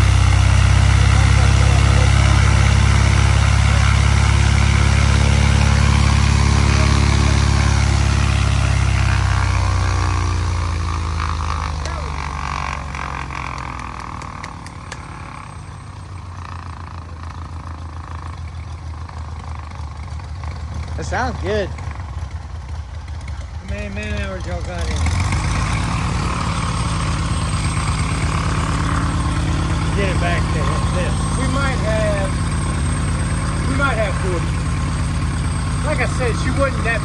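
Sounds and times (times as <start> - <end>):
aircraft engine running: 0.0 - 37.0.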